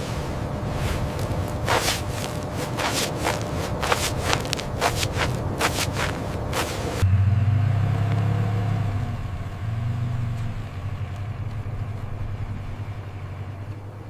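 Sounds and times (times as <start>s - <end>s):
low pulsing engine rumble: 0.0s - 14.0s.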